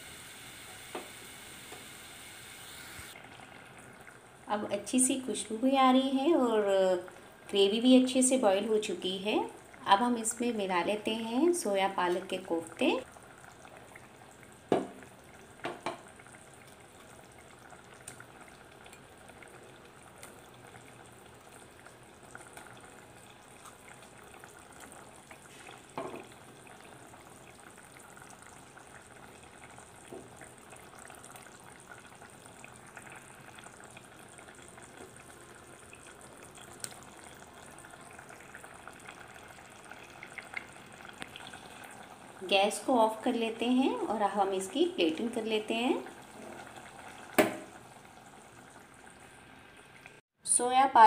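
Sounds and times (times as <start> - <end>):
gravy bubbling in a pot: 3.1 - 50.3.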